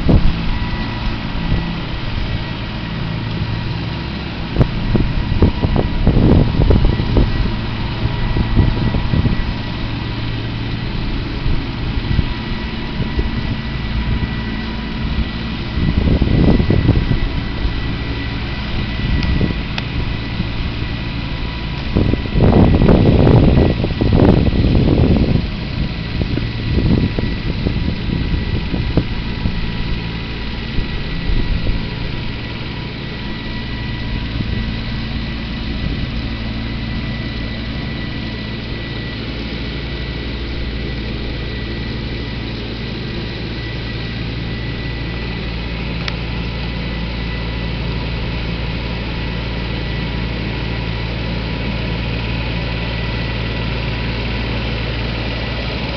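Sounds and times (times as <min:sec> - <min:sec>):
low rumbling bursts: 0:00.0 - 0:55.9
tractor engine running: 0:00.0 - 0:55.9.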